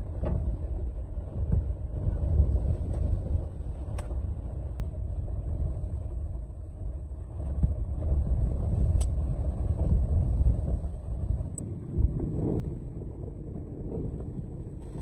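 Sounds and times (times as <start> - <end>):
blizzard wind buffeting microphone: 0.0 - 15.0.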